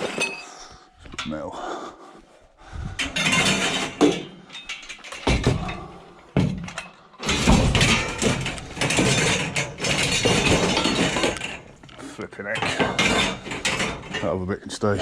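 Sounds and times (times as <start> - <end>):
scrap metal clattering and scraping: 0.0 - 1.4, 2.7 - 15.0.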